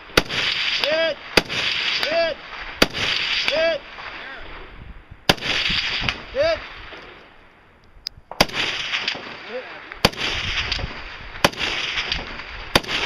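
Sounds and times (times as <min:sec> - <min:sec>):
rifle shots echoing: 0:00.0 - 0:04.7, 0:05.3 - 0:07.4, 0:08.3 - 0:13.0.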